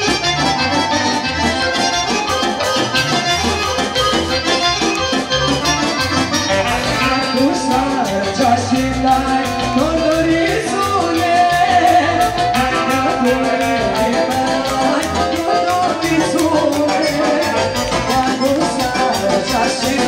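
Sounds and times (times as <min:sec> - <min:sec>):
accordion melody: 0:00.0 - 0:20.0.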